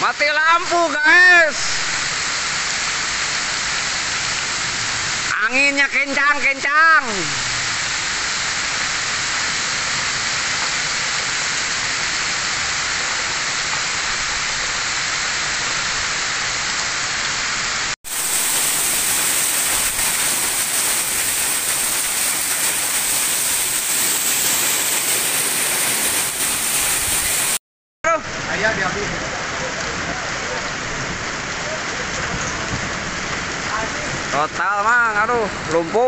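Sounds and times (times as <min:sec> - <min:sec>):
heavy rain pouring: 0:00.1 - 0:36.0.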